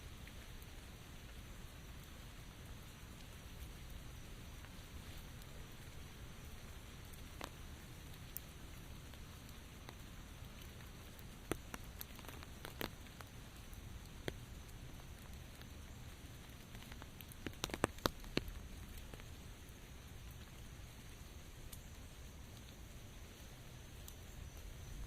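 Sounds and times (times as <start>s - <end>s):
low rumble of rain: 0.0s - 25.0s
raindrops tapping on hard surface: 0.1s - 21.0s.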